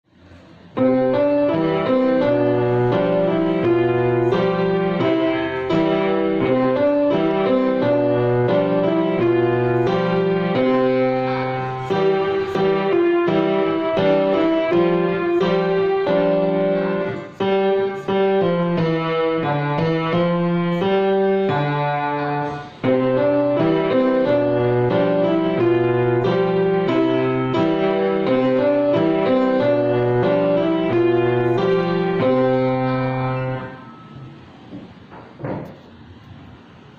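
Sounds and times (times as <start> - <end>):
solo piano: 0.0 - 36.9.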